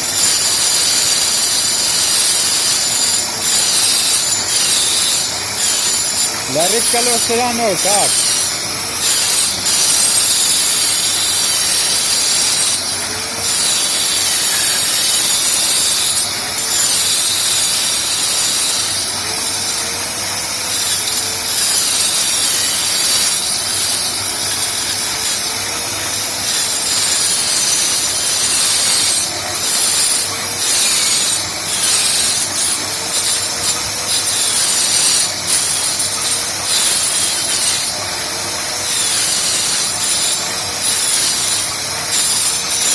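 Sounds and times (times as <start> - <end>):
power cutter cutting wood: 0.0 - 42.9.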